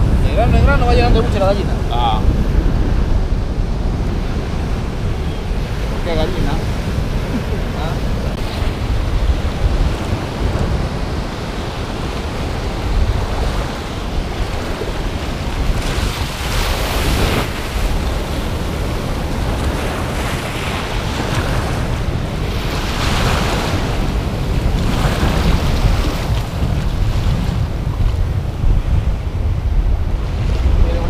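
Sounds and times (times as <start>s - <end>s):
ocean surf washing in: 0.0s - 31.0s
wind buffeting microphone: 0.0s - 31.0s.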